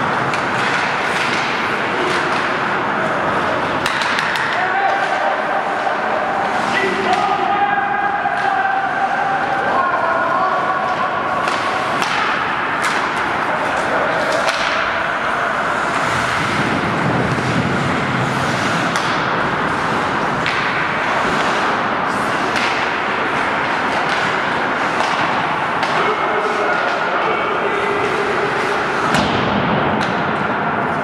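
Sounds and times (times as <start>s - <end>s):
hockey sticks and puck clacking: 0.0s - 31.0s
skate and arena noise: 0.0s - 31.0s.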